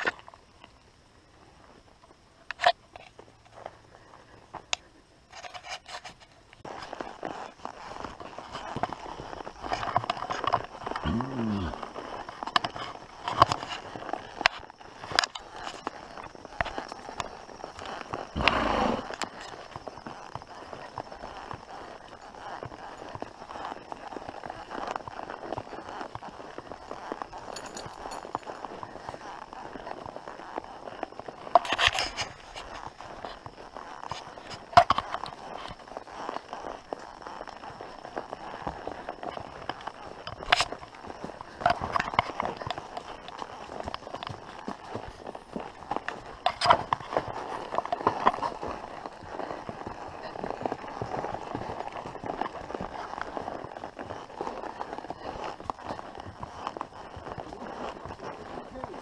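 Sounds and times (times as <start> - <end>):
horse hooves on dirt: 0.0 - 59.0.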